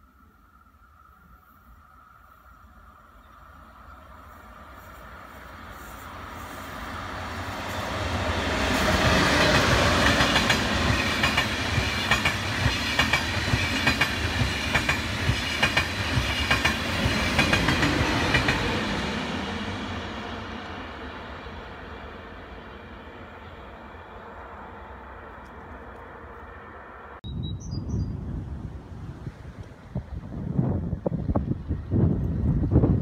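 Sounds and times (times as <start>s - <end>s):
high-speed train passing: 0.0s - 27.2s, 28.2s - 33.0s.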